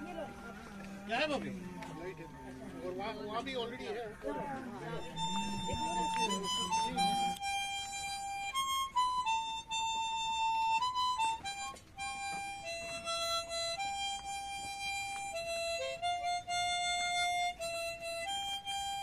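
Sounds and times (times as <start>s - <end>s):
harmonica slow melody: 0.0s - 19.0s.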